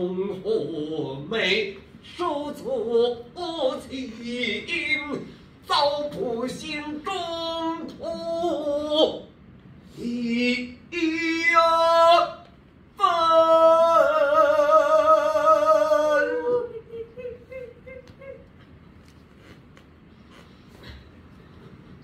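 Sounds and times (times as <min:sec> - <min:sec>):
person singing opera unaccompanied: 0:00.0 - 0:09.3, 0:09.9 - 0:18.6.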